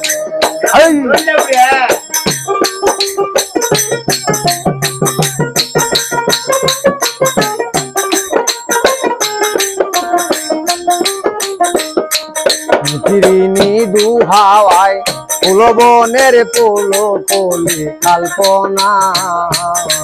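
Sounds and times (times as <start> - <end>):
hand drum beating: 0.0 - 20.0
plucked lute in fast strokes: 0.0 - 20.0.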